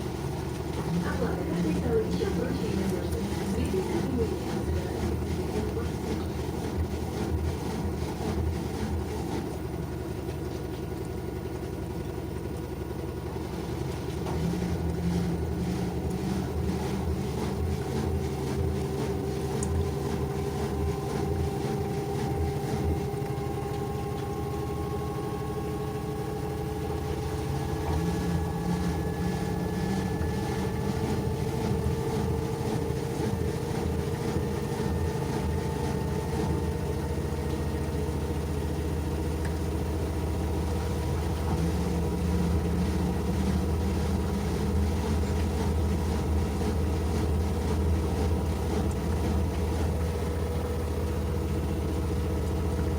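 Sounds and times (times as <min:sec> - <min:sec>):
washing machine motor whine: 0:00.0 - 0:52.9.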